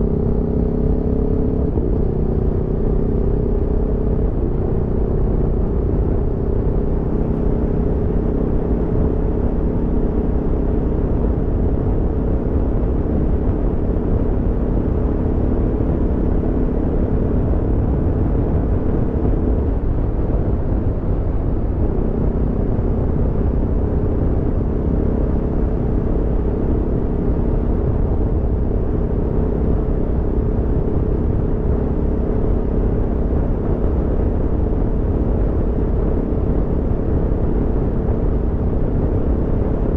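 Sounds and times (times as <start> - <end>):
low rumble: 0.0 - 39.9
motorcycle engine running: 0.0 - 39.9.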